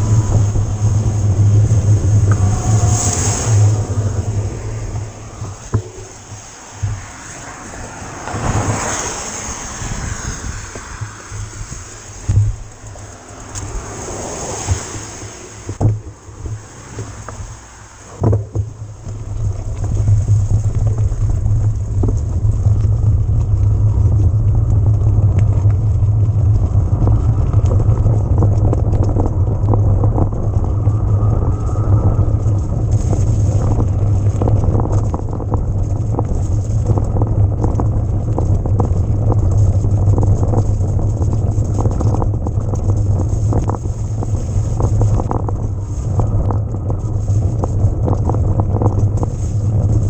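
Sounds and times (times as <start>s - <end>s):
bike clicks and rattles: 0.0s - 50.0s
wind buffeting microphone: 0.0s - 50.0s.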